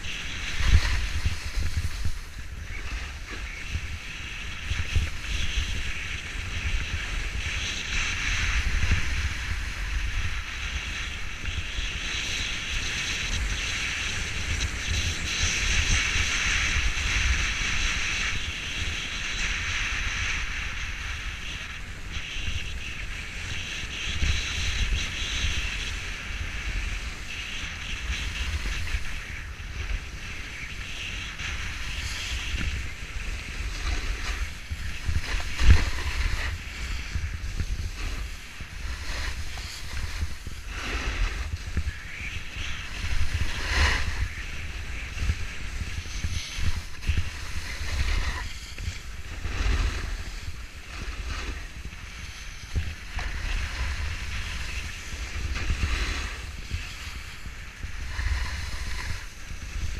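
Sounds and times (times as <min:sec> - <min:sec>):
skis scraping on snow: 0:00.0 - 0:59.9
wind buffeting microphone: 0:00.0 - 0:59.9.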